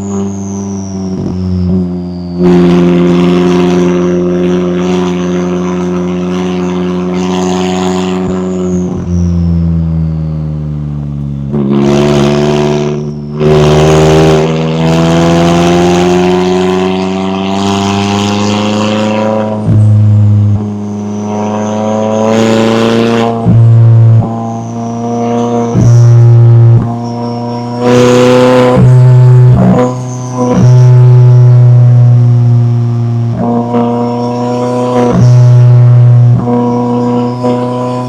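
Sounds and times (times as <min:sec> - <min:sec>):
car engine accelerating and slowing: 0:00.0 - 0:38.0.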